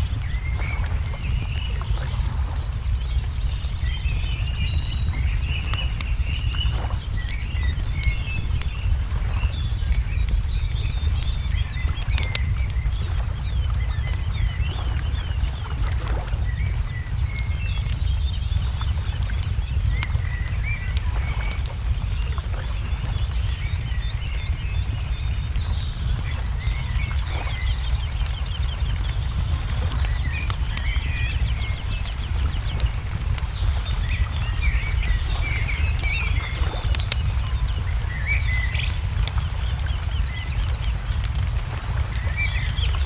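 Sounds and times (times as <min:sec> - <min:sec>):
small birds chirping: 0:00.0 - 0:43.0
steady low rumble: 0:00.0 - 0:43.0
wood fire crackling and popping: 0:00.0 - 0:43.0.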